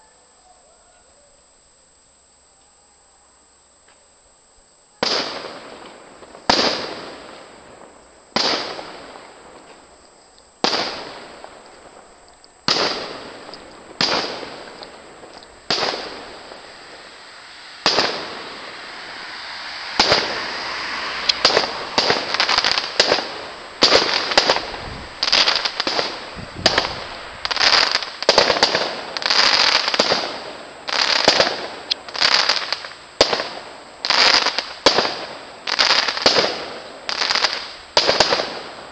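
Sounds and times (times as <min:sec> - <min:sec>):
firework crackling: 0:04.9 - 0:38.9
firework shells bursting: 0:05.1 - 0:38.9.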